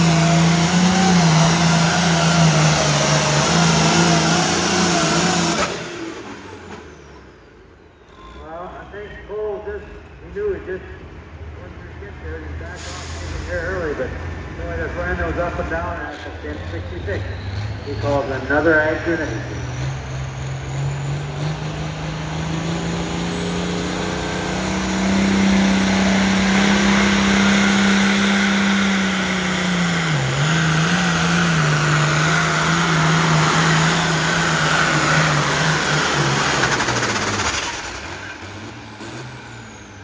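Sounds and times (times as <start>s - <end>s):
diesel tractor engine at full throttle: 0.0s - 40.0s.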